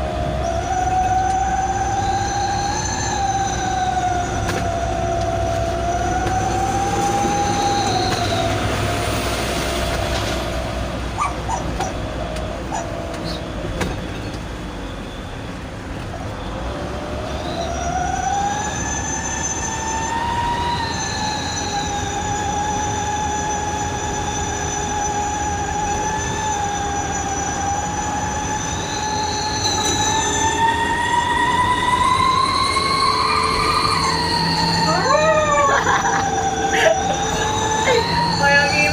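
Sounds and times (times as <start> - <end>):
engine rumble: 0.0 - 38.9
truck whistle exhaust howling: 0.0 - 38.9.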